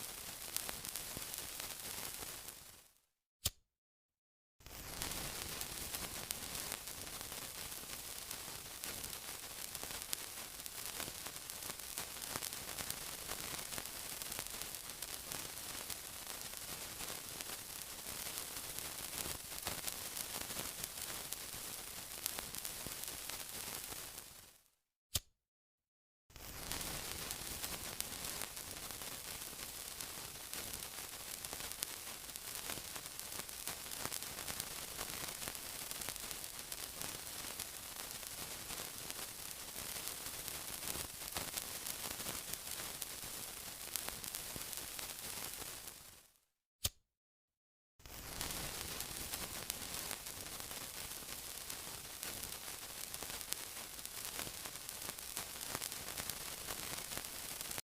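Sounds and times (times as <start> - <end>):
sizzling crackle and hiss: 0.0 - 3.0, 4.6 - 24.7, 26.3 - 46.4, 48.0 - 57.8.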